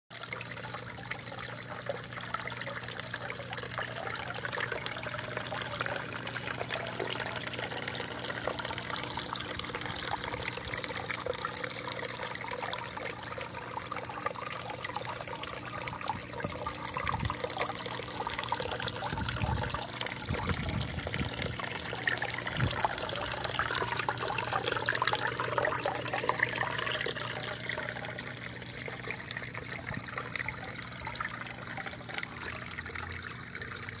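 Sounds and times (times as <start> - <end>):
fountain water trickling: 0.1 - 34.0.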